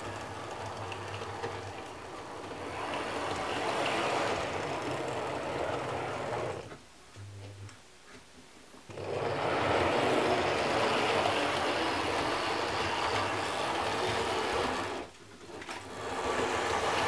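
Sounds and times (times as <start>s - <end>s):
model train running on track: 0.0s - 6.6s, 9.0s - 15.1s, 15.9s - 17.0s.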